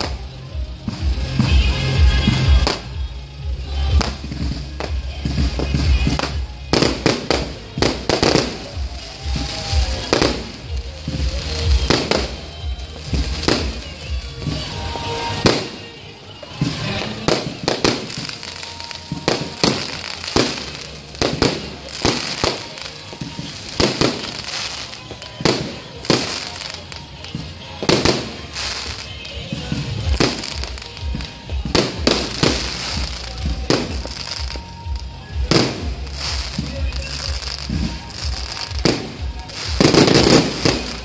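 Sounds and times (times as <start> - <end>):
fireworks bursting with bangs: 0.0 - 41.0.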